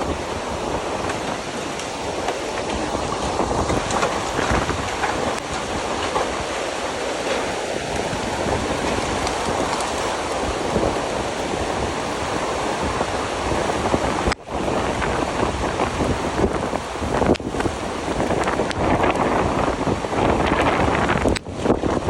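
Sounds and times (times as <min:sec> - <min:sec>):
floodwater rushing: 0:00.0 - 0:22.0
wind buffeting microphone: 0:00.0 - 0:22.0.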